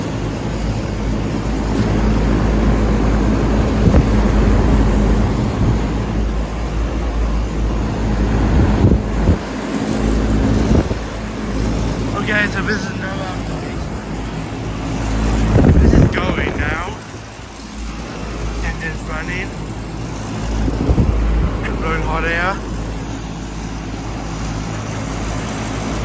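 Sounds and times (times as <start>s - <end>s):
air conditioner units humming: 0.0s - 26.0s
fans rushing: 0.0s - 26.0s.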